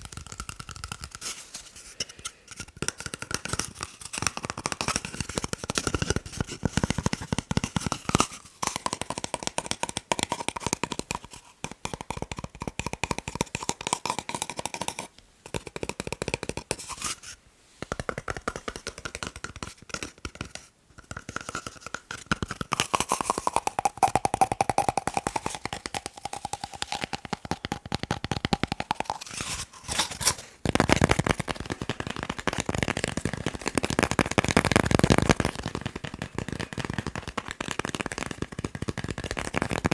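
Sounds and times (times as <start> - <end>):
fingertip tapping on paper: 0.0 - 1.3, 2.8 - 16.8, 17.8 - 29.3, 30.7 - 39.9.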